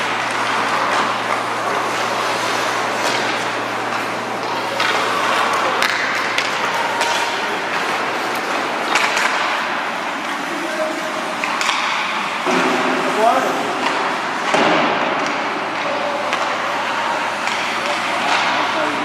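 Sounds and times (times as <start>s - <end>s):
hockey sticks and puck clacking: 0.0s - 13.1s, 13.8s - 19.0s
arena noise: 0.0s - 19.0s.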